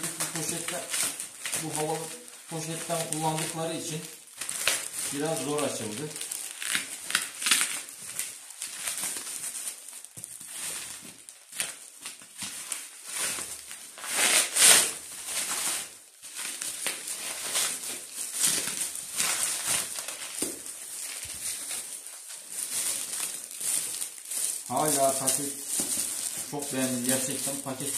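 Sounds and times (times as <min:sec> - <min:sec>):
bubble wrap crinkling: 0:00.0 - 0:27.9.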